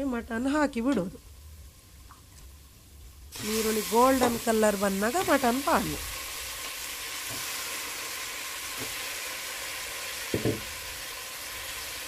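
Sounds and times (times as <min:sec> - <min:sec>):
onions sizzling in a pan: 0:00.1 - 0:12.0.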